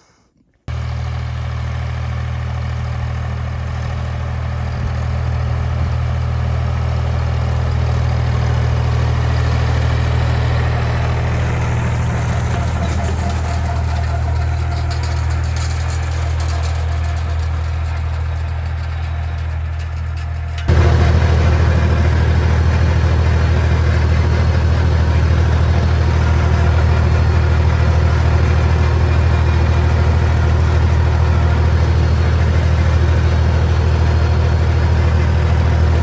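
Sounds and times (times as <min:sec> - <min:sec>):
tractor engine running: 0:00.7 - 0:36.0.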